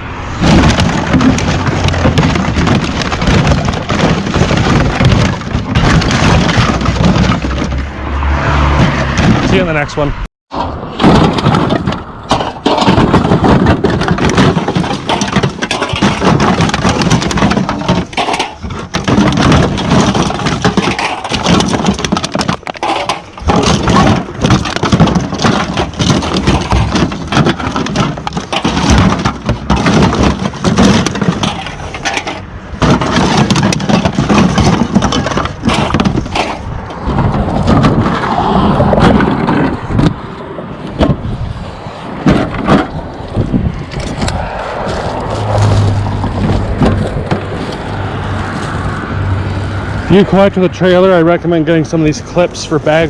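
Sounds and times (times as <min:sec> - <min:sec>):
loud crackling and clattering: 0:00.3 - 0:09.8, 0:10.5 - 0:53.0.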